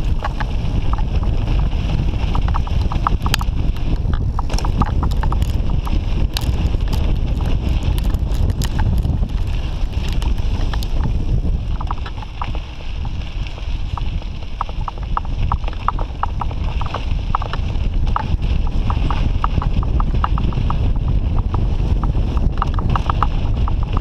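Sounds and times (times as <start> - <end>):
bike rattling clicks: 0.0 - 24.0
wind and tyres on dirt: 0.0 - 24.0.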